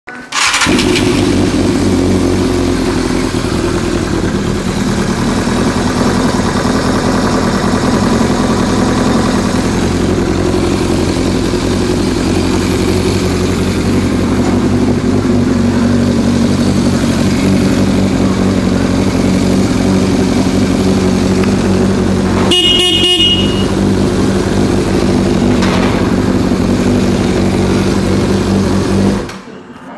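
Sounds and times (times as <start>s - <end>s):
motorcycle engine idling: 0.4s - 29.4s.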